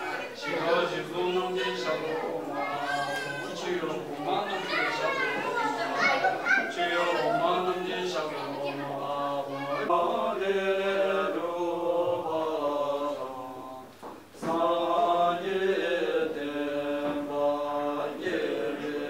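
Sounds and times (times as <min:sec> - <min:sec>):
men chanting a prayer: 0:00.0 - 0:19.0.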